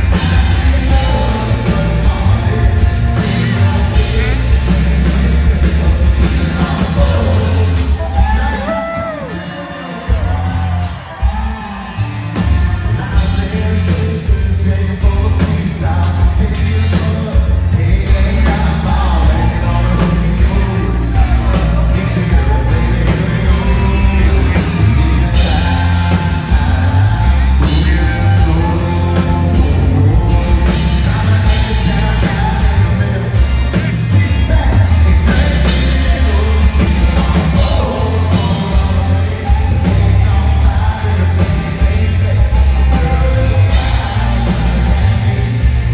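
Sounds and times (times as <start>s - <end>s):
country band playing: 0.0s - 45.9s
man singing: 0.0s - 45.9s.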